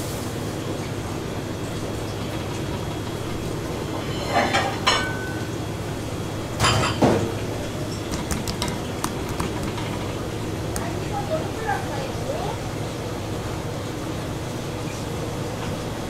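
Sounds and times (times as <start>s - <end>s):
kitchen low hum: 0.0s - 16.0s.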